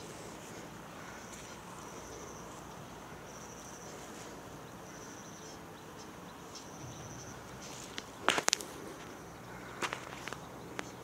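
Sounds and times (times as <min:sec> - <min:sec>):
cricket chirping: 0:00.0 - 0:11.0
faint background hiss: 0:00.0 - 0:11.0.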